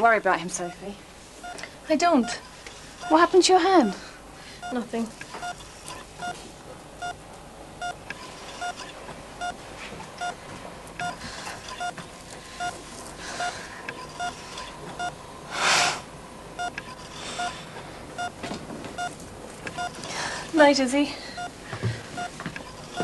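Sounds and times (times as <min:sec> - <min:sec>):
patient monitor beeping: 0:00.0 - 0:15.4, 0:16.4 - 0:23.0.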